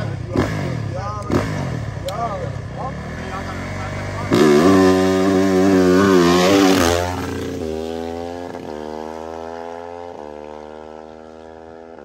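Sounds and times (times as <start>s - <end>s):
dirt bike racing past: 0.0s - 12.0s.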